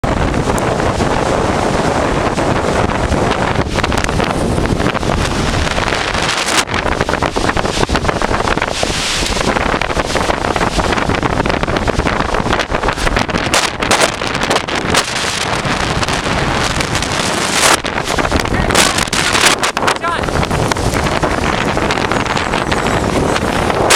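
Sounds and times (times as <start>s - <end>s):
storm wind buffeting microphone: 0.0s - 23.9s.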